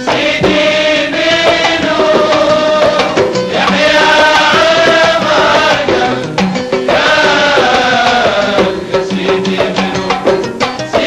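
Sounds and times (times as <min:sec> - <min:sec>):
hand drums beating: 0:00.0 - 0:11.0
men's chorus singing: 0:00.0 - 0:11.0.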